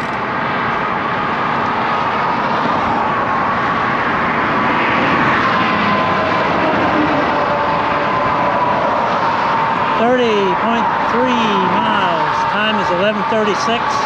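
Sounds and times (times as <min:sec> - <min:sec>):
faint passing traffic whine: 0:00.0 - 0:14.0
wind and road noise: 0:00.0 - 0:14.0.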